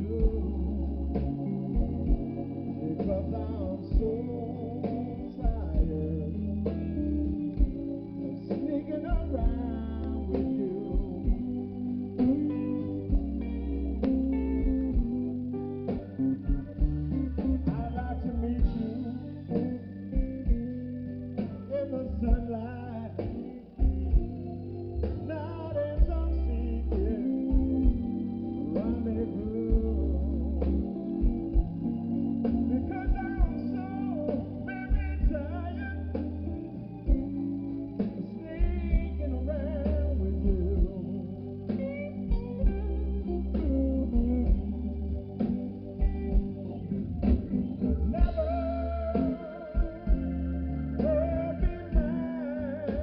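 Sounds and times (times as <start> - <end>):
blues band playing: 0.0 - 53.0.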